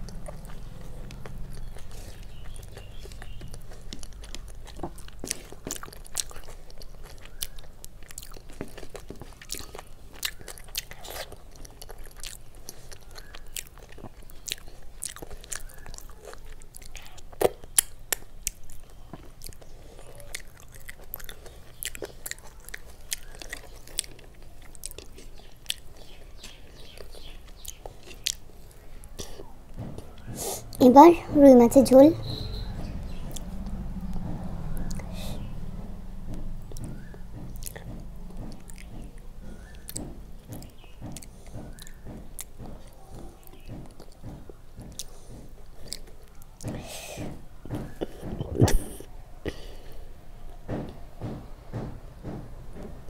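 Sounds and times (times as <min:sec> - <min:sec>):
close chewing with mouth clicks: 0:00.0 - 0:30.8, 0:32.3 - 0:50.1.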